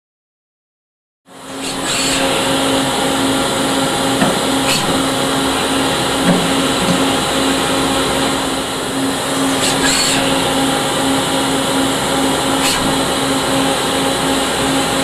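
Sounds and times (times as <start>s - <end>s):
lathe spindle and coolant hiss: 1.4s - 15.0s.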